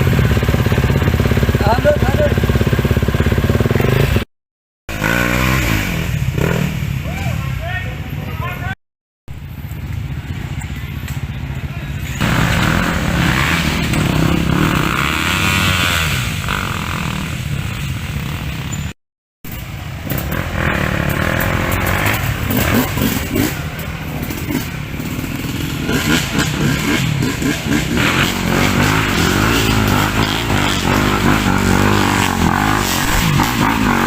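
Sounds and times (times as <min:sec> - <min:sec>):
motorcycle engines revving: 0:00.0 - 0:04.3, 0:04.9 - 0:08.8, 0:09.4 - 0:34.0.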